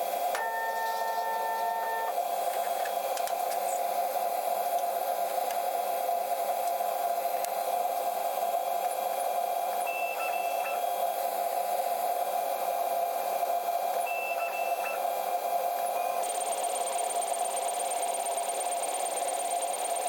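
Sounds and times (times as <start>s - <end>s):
laser cutter humming: 0.0s - 20.0s.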